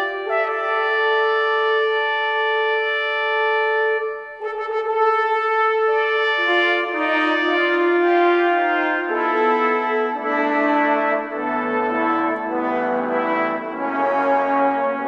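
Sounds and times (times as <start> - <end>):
brass sustained chords: 0.0 - 15.0.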